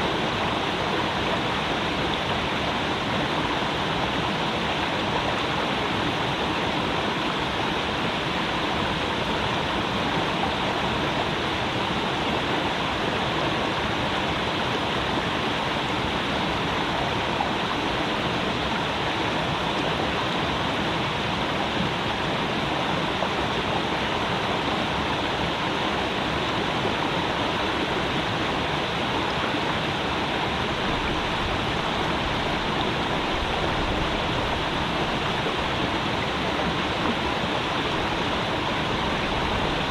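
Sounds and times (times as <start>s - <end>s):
creek water babbling: 0.0s - 39.9s.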